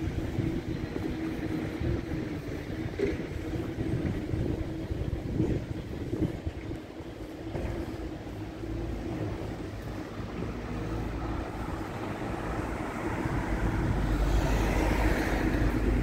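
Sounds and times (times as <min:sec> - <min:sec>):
traffic rumble: 0:00.0 - 0:16.0
wind buffeting microphone: 0:00.0 - 0:16.0.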